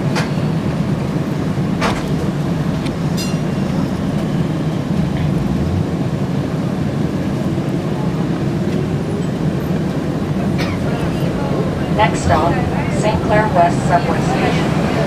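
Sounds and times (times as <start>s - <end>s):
streetcar rumbling on rails: 0.0s - 15.0s.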